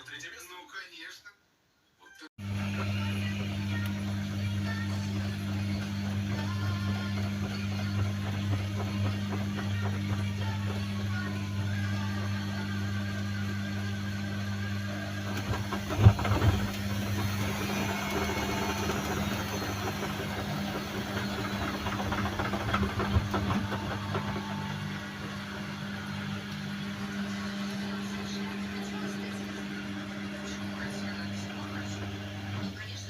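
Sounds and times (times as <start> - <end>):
washing machine running: 2.4 - 33.0.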